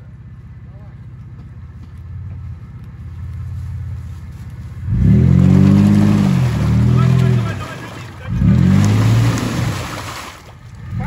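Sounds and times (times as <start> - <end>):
vehicle engine revving: 1.8 - 11.0.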